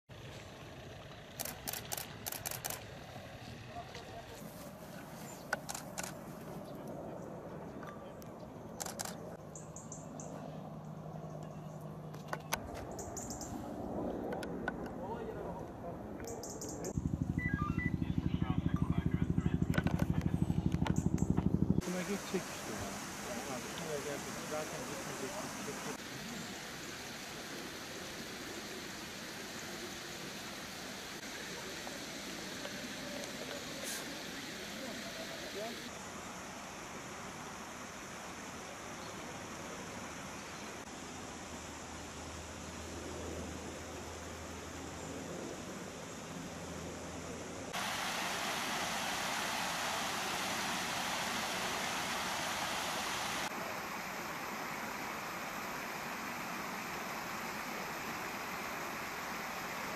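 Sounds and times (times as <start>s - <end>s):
outdoor background hiss: 0.1s - 7.3s, 8.0s - 19.6s, 20.2s - 59.9s.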